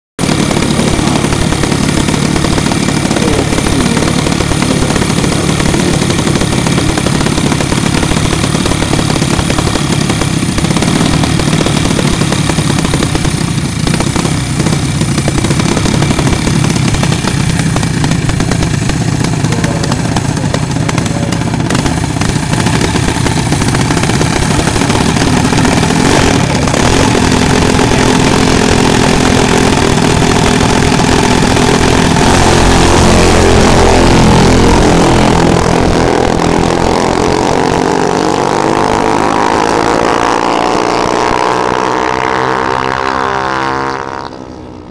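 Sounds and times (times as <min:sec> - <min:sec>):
minibike engines running loudly: 0:00.2 - 0:44.9.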